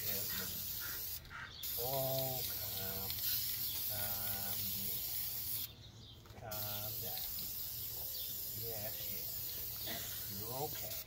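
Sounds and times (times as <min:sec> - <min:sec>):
spray paint can hissing: 0:00.0 - 0:05.7, 0:06.5 - 0:11.0.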